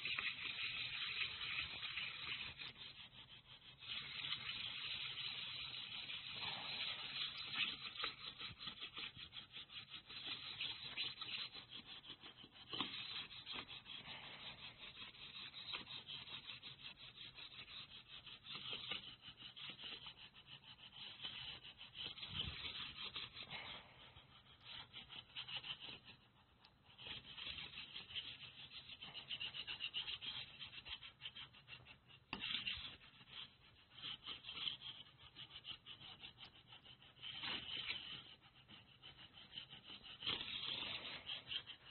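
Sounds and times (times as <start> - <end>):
pad rubbing on paper: 0.0 - 41.9.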